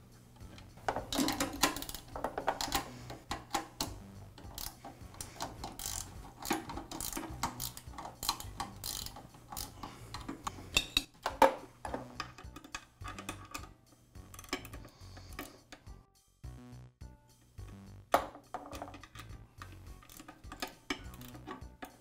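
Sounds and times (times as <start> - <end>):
metallic clicks and rattles: 0.4 - 15.9, 18.3 - 22.0.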